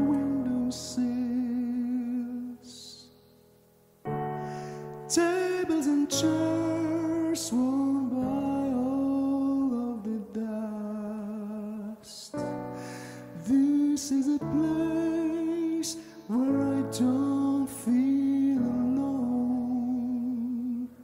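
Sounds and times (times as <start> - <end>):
person singing slow song: 0.0 - 21.0
soft musical accompaniment: 0.0 - 21.0.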